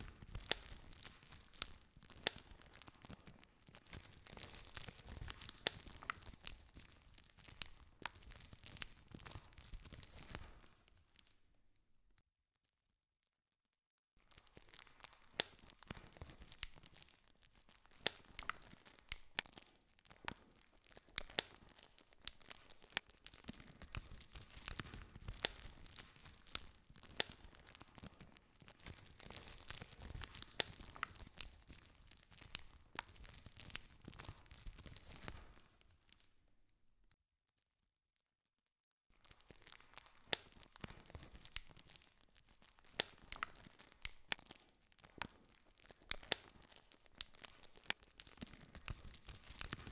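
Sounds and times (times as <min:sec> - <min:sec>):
campfire crackling and popping: 0:00.0 - 0:11.3, 0:14.2 - 0:36.2, 0:39.2 - 0:49.9.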